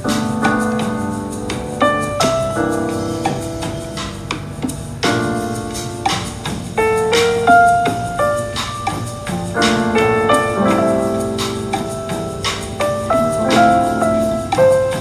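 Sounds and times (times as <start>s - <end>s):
lounge jazz piano music: 0.0s - 15.0s.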